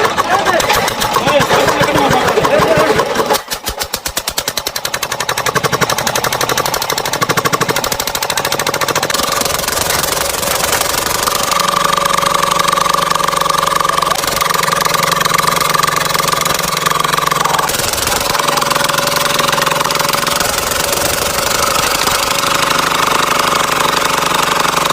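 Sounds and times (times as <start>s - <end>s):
diesel engine knocking: 0.0s - 24.9s.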